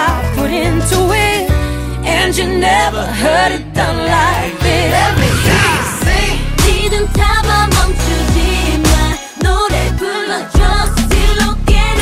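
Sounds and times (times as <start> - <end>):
bass and backing track: 0.0 - 10.0, 10.6 - 12.0.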